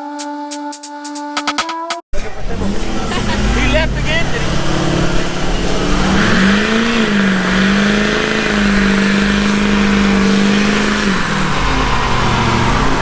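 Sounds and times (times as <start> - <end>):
truck engine revving: 2.1 - 13.0.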